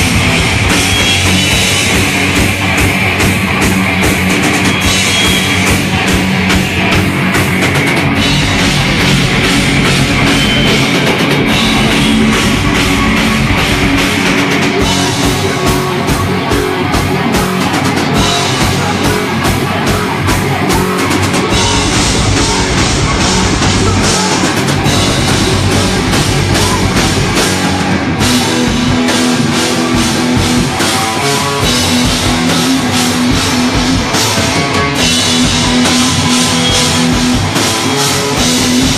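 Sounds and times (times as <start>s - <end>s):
drum kit with cymbals: 0.0s - 38.9s
electric guitar: 0.0s - 38.9s.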